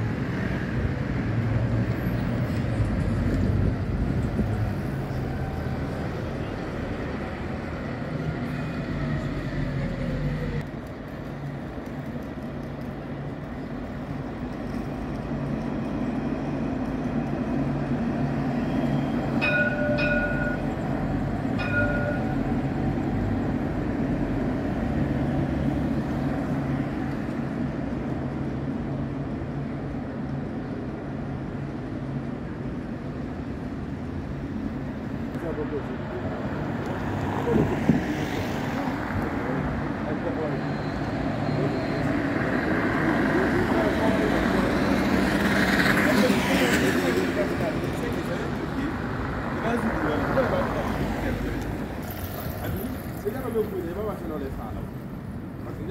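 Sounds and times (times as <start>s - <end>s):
bus moving off with whine: 0.0s - 55.9s
tram rolling rumble: 0.0s - 55.9s.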